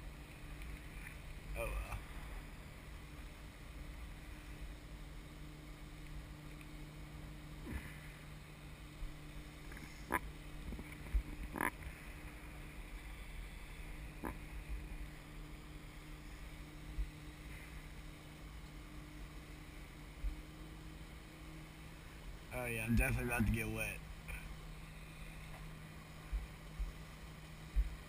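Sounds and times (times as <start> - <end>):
faint even hum: 0.0 - 28.0.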